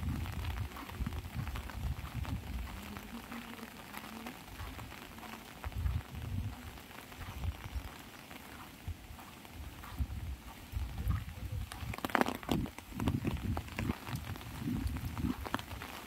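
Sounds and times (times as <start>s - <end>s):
rain pattering on umbrella: 0.0s - 16.0s.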